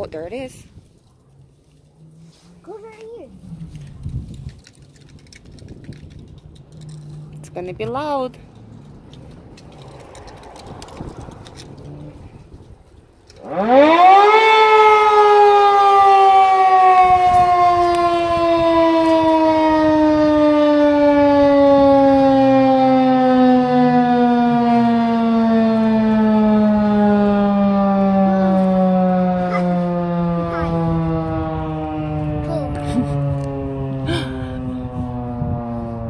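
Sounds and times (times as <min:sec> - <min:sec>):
tornado warning siren: 0:00.0 - 0:08.5, 0:13.3 - 0:36.0.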